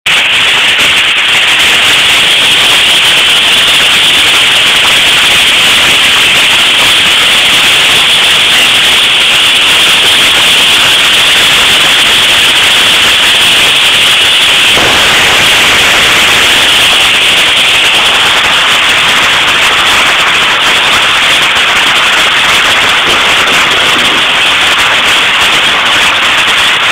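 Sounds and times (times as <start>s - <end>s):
hail clattering: 0.3s - 26.9s.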